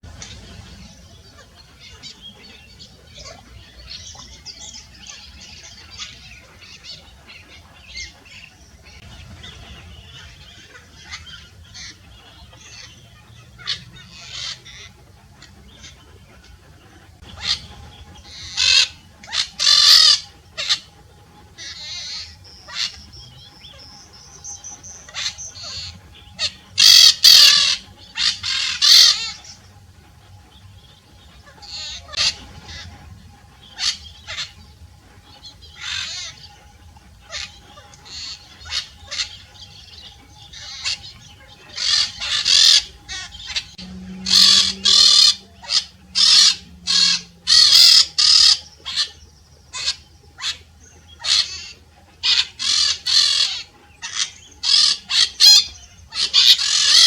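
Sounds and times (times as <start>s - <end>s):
parakeets chirping and screeching: 0.0s - 57.0s.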